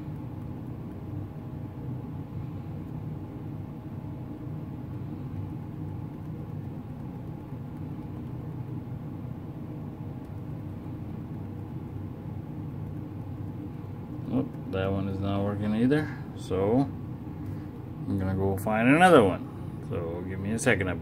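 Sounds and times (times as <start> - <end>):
machinery humming and rumbling: 0.0 - 21.0.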